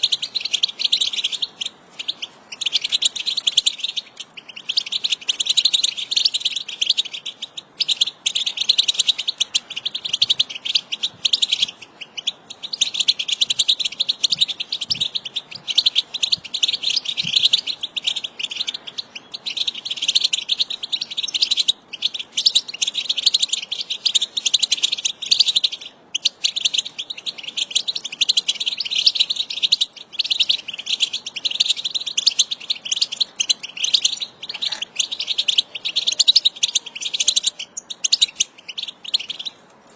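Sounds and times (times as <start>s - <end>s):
goldfinches twittering: 0.0s - 39.6s.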